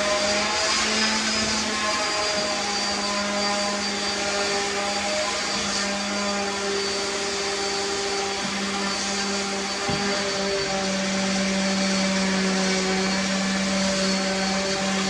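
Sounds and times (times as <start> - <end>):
electric motor running: 0.0 - 15.0.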